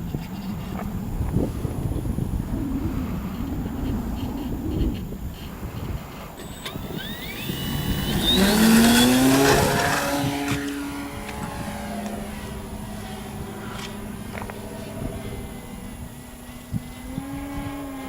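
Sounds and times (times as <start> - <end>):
model plane motor whine: 0.0 - 18.0
wind noise on microphone: 0.0 - 18.0.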